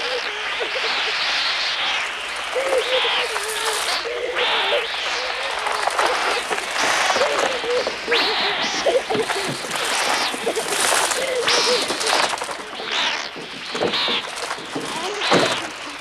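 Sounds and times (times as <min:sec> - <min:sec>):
children screaming: 0:00.0 - 0:16.0
crows cawing: 0:00.0 - 0:16.0
wings flapping: 0:00.0 - 0:16.0.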